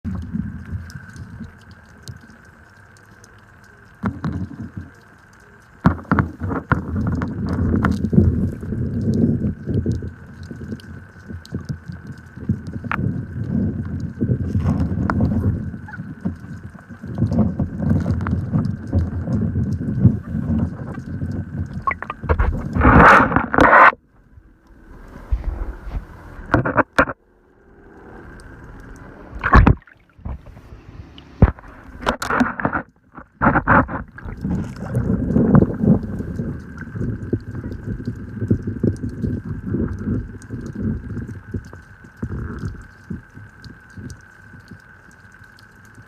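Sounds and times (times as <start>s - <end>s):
muffled underwater rumbling: 0.0s - 46.0s
faint high whine: 0.1s - 46.0s.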